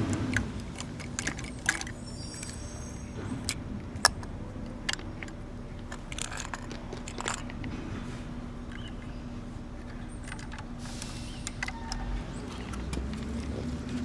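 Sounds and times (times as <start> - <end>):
toy trucks clicking and tapping: 0.0 - 8.0, 8.6 - 14.0.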